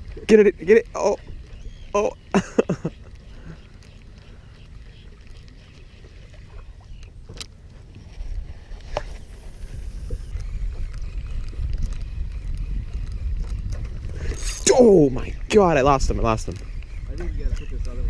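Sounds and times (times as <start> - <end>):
low rumbling wind and water: 0.0 - 18.0.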